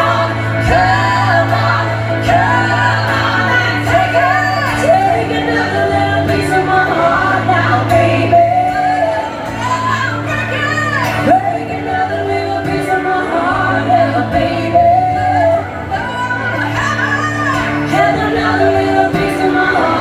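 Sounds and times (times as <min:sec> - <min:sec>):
bass line: 0:00.0 - 0:20.0
live country band playing: 0:00.0 - 0:20.0
woman singing long notes: 0:00.0 - 0:20.0.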